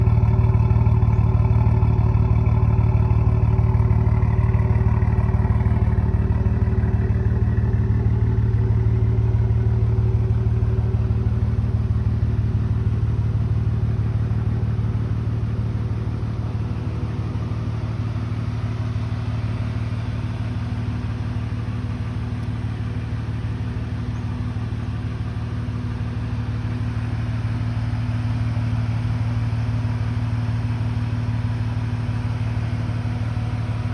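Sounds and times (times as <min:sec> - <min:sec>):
car exhaust idling: 0:00.0 - 0:33.9.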